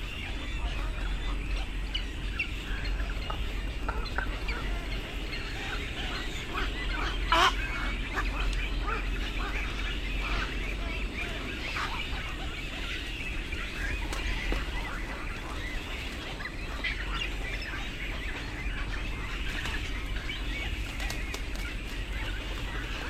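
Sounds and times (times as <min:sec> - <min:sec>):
chorus of bird calls: 0:00.0 - 0:23.0
steady low rumble: 0:00.0 - 0:23.0.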